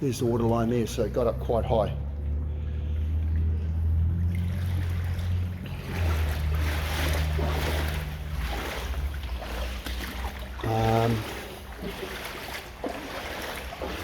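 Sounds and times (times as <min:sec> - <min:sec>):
low steady hum: 0:00.0 - 0:14.0
sloshing through shallow water: 0:00.0 - 0:14.0.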